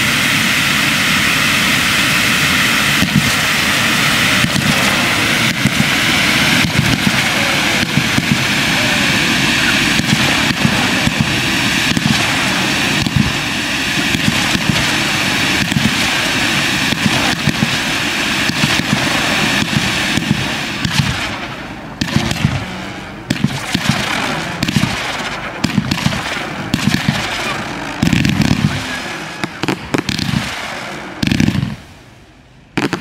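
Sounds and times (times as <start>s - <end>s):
fireworks popping and banging: 0.0s - 32.0s, 32.7s - 33.0s
fireworks hissing: 0.0s - 33.0s.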